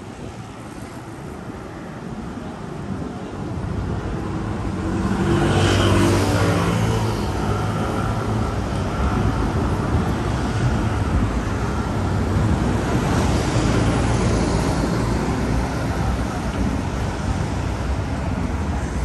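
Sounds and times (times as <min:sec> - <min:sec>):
road traffic rumble: 0:00.0 - 0:19.0
wind buffeting microphone: 0:00.0 - 0:19.0.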